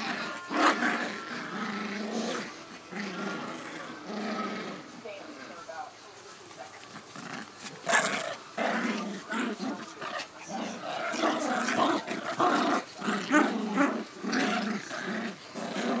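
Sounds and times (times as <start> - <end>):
small dogs growling: 0.0 - 5.5, 6.7 - 16.0.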